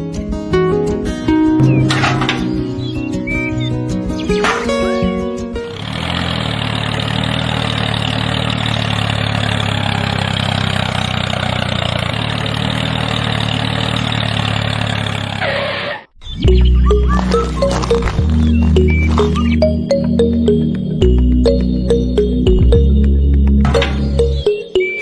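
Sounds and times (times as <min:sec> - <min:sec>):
engine humming: 0:01.4 - 0:25.0.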